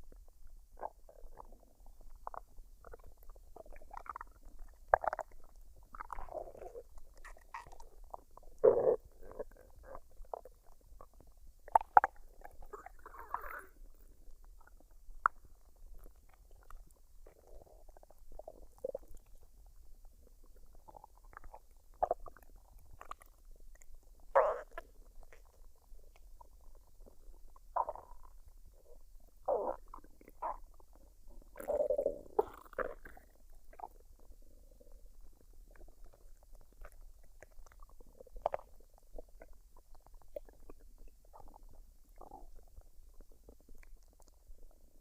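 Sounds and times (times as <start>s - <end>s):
stomach gurgling: 0.0s - 45.0s.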